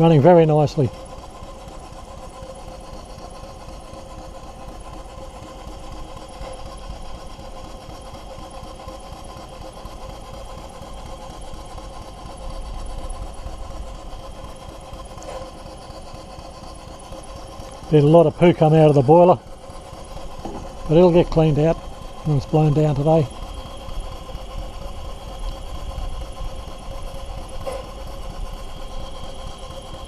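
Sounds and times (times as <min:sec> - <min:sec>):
steam engine mechanical beat: 0:00.0 - 0:30.0.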